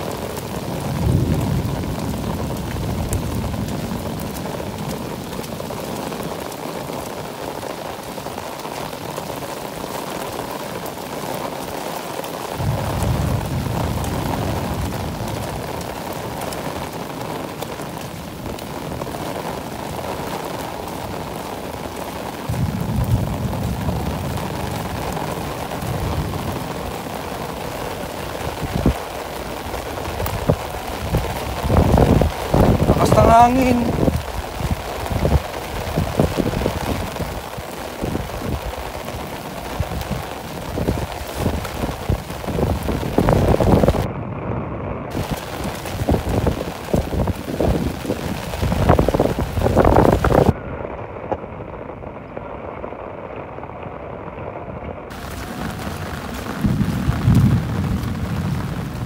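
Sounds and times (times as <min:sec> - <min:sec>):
low thunder rumbles: 0:00.0 - 0:07.9, 0:12.5 - 0:59.0
heavy rain pouring: 0:00.0 - 0:59.0.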